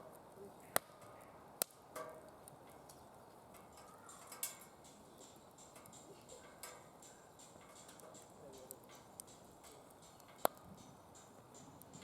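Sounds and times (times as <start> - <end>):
faint hiss of burning: 0.0 - 12.0
fire pops: 0.0 - 12.0.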